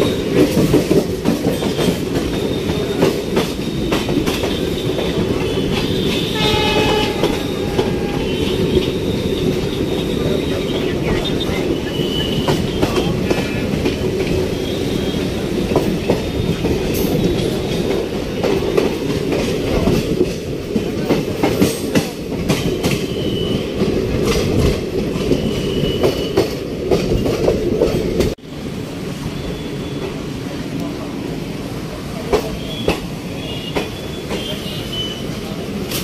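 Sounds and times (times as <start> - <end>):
train rumble and air rush: 0.0 - 36.0.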